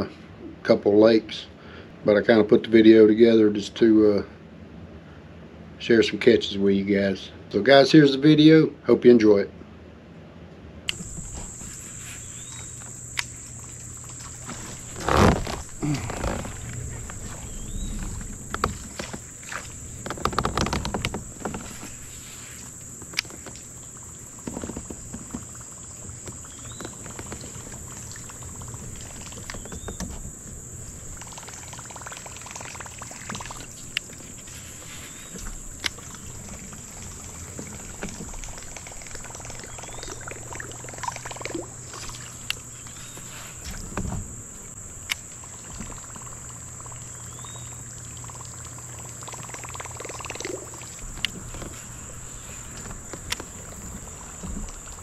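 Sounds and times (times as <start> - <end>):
high-pitched insect drone: 10.9 - 55.0.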